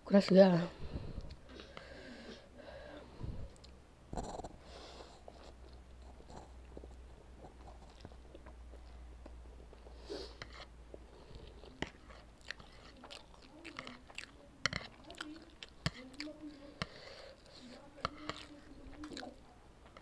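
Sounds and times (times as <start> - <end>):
person chewing noodles: 3.5 - 20.0.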